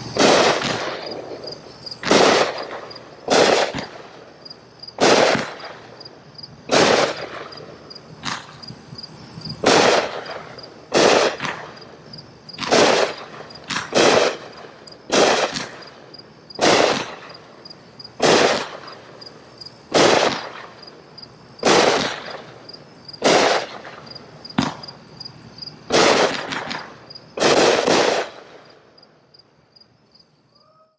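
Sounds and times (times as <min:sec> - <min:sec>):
fireworks bursts: 0:00.0 - 0:28.9
crickets chirping: 0:00.0 - 0:30.9.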